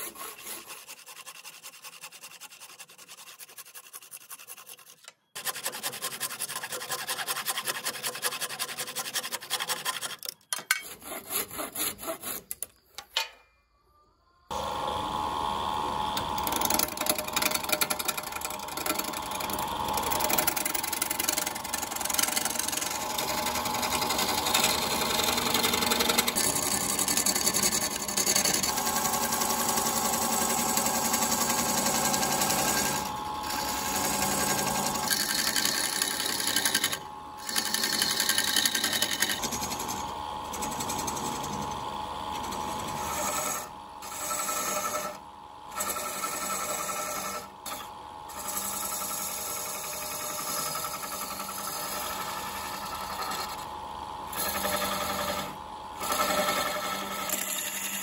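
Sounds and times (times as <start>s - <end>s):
wood lathe humming: 0.0s - 2.5s, 10.8s - 12.6s, 14.5s - 58.0s
turning tool scraping wood: 0.0s - 13.0s, 16.2s - 28.8s, 31.4s - 53.7s, 54.3s - 58.0s.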